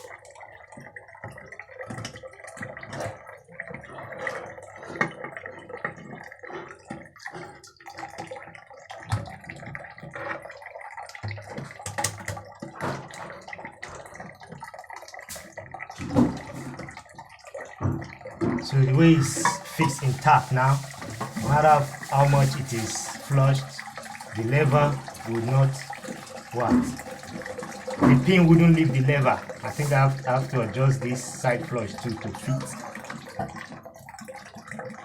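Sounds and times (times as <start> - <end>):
water trickling in toilet cistern: 0.0 - 35.0.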